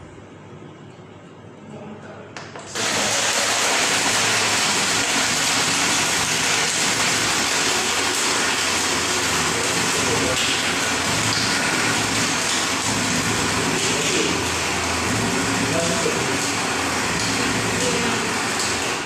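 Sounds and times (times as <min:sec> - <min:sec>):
blender crushing ice: 0:02.7 - 0:19.0.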